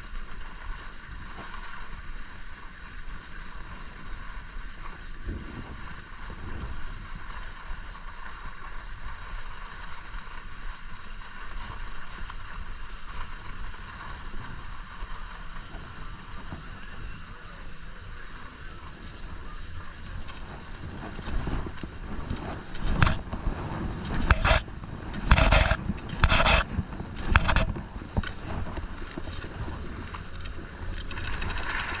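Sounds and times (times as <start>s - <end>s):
ski edges scraping hard snow: 0.0s - 32.0s
skis sliding on snow: 0.0s - 32.0s
wind buffeting microphone: 3.7s - 8.0s, 10.4s - 32.0s.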